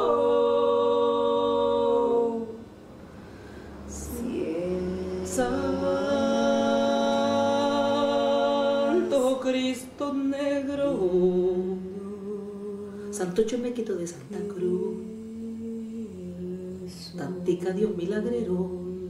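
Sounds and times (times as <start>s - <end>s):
person singing unaccompanied: 0.0s - 2.6s, 3.9s - 19.0s.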